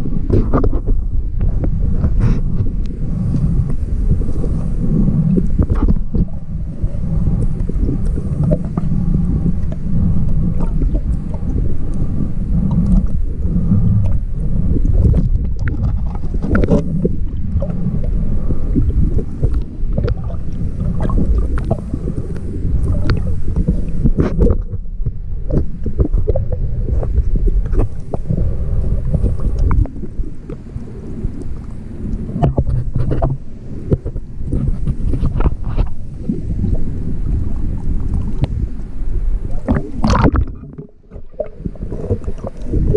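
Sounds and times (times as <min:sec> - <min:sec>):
muffled underwater water rumble: 0:00.0 - 0:42.9.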